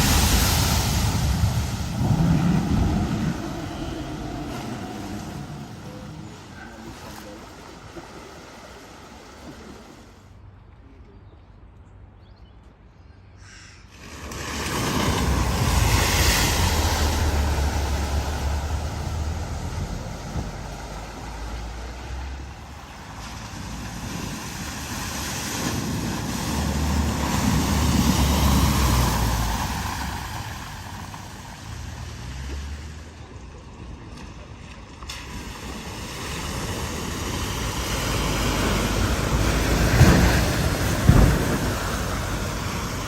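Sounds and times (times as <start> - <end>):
water rushing and splashing: 0.0 - 10.5, 13.8 - 43.0
low engine rumble: 0.0 - 12.0, 14.4 - 43.0.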